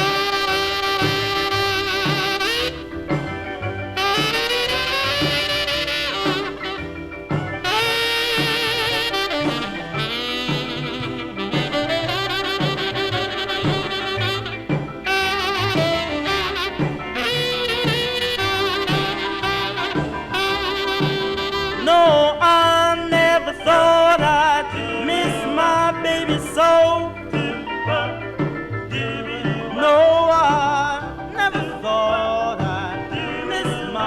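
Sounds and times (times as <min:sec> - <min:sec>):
horn solo with vibrato: 0:00.0 - 0:31.6
band playing: 0:00.0 - 0:34.0
steady drum beat: 0:00.0 - 0:34.0.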